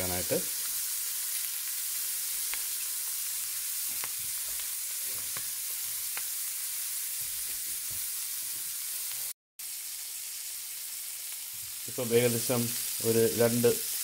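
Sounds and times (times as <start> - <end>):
prawns sizzling on grill pan: 0.0 - 14.0.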